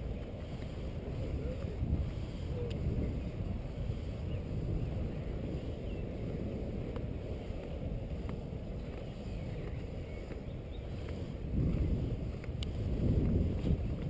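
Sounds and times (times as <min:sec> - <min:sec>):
inline skate wheels rolling on asphalt: 0:00.0 - 0:14.0
wind on microphone: 0:00.0 - 0:14.0.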